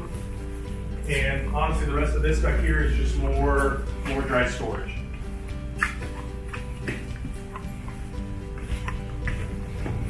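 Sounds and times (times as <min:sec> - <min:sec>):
background music sustained notes: 0:00.0 - 0:10.0.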